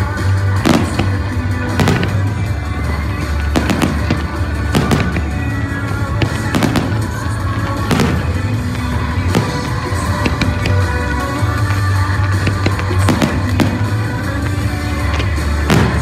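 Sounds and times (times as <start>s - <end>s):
fireworks bangs and crackles: 0.0s - 16.0s
loud music with heavy bass: 0.0s - 16.0s.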